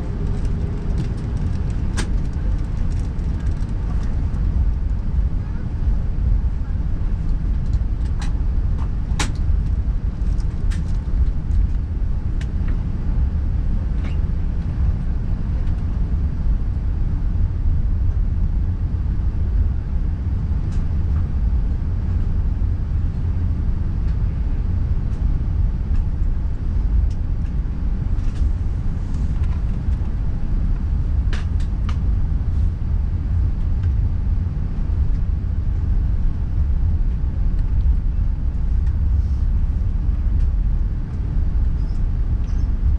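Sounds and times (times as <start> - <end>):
aircraft cabin rumble: 0.0 - 42.9.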